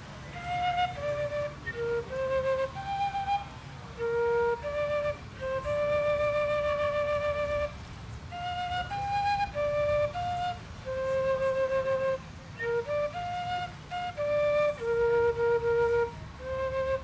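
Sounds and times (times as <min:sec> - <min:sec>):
slow wind instrument melody: 0:00.0 - 0:17.0.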